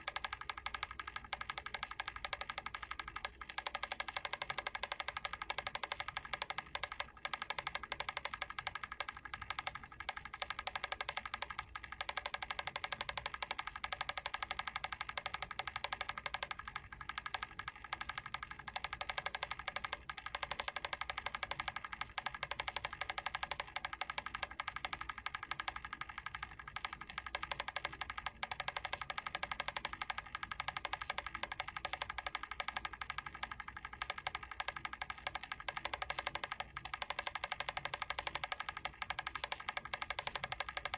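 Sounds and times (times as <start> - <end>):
mechanical timer ticking: 0.0 - 40.9.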